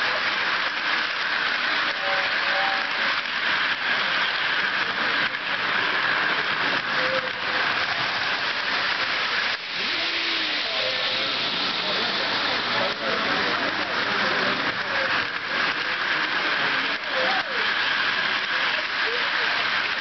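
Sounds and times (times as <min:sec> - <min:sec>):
model train rolling: 0:00.0 - 0:20.0.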